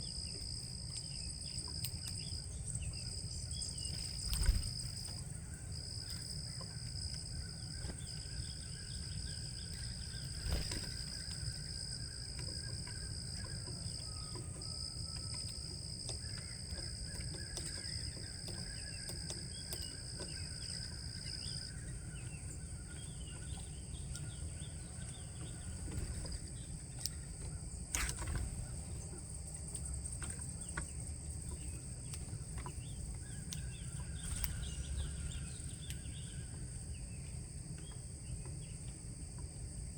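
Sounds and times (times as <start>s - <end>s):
insects singing drone: 0.0s - 39.9s
faint bird chirps: 1.0s - 38.8s.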